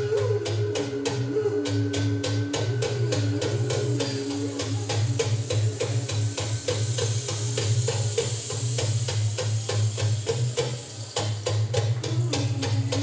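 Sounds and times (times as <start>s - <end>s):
instrumental music with clicking beat: 0.0s - 13.0s.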